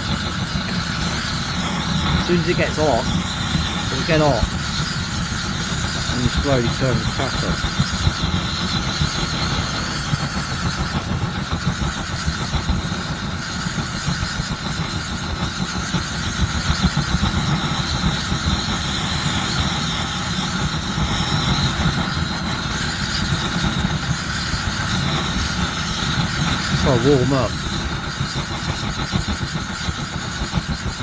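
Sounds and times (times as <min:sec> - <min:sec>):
petrol burner rumbling: 0:00.0 - 0:31.0.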